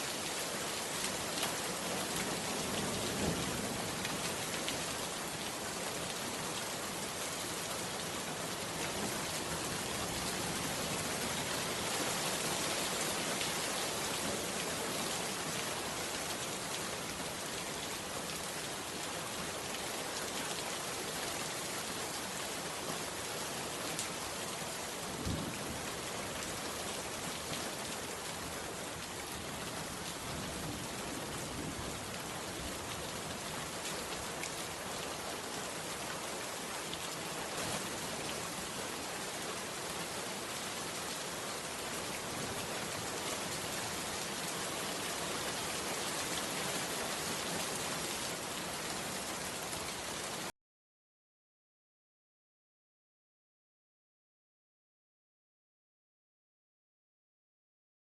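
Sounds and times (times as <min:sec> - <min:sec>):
steady rain falling: 0:00.0 - 0:50.5.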